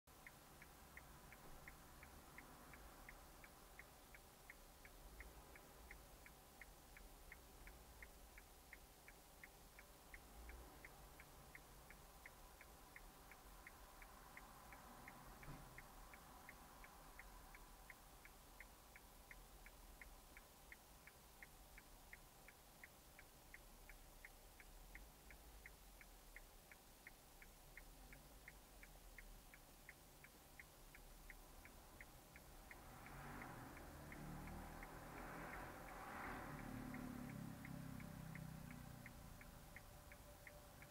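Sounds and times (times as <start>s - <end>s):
indicator relay ticking: 0.1s - 40.9s.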